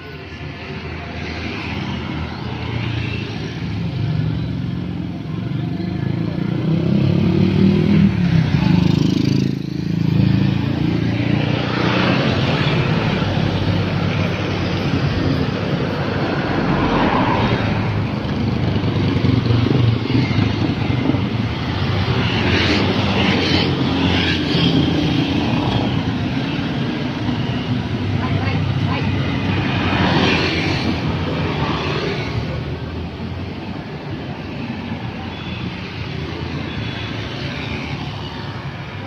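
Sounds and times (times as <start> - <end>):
motorbike engines passing: 0.0 - 39.0
small trucks passing: 0.0 - 39.0
tyres on asphalt: 0.0 - 39.0.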